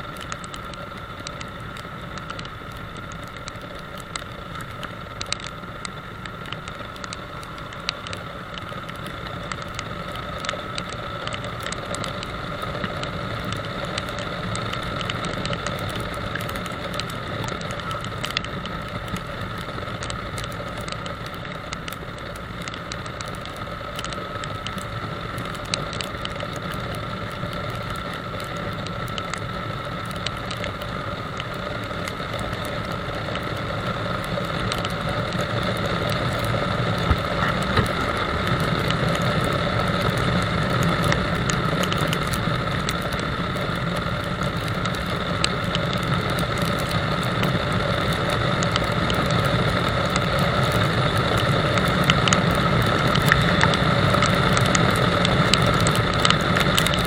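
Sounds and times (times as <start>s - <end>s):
motorcycle engine and road noise: 0.0s - 57.0s
light ticks: 0.1s - 57.0s.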